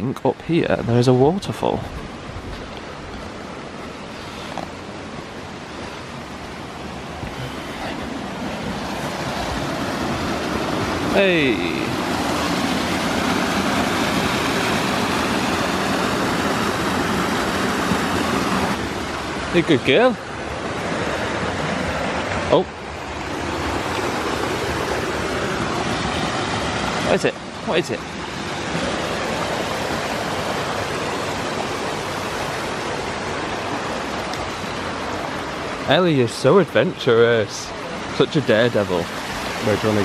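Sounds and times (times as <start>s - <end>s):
waterfall and stream rushing: 0.0s - 40.0s.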